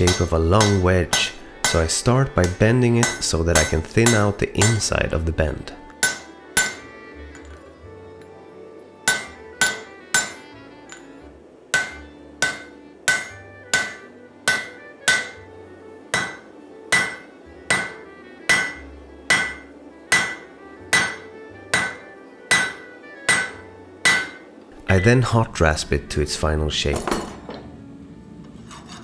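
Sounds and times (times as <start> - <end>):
hammer striking hot steel on anvil: 0.0 - 7.6, 9.0 - 25.3.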